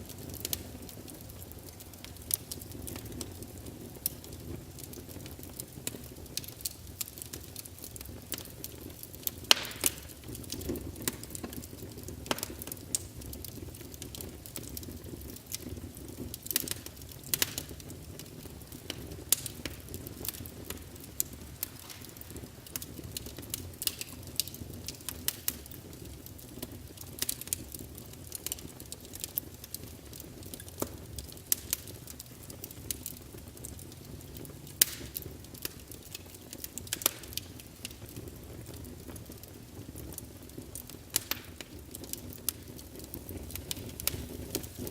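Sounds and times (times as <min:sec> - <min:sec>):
burning logs crackling and popping: 0:00.0 - 0:44.9
fire flames rumbling: 0:00.0 - 0:44.9.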